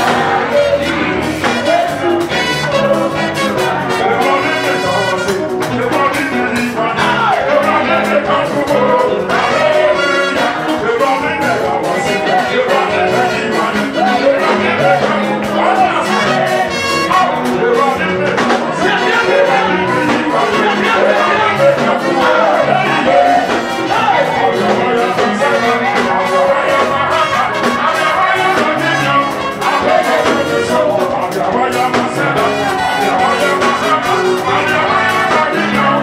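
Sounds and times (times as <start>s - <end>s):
church praise band music: 0.0s - 36.0s.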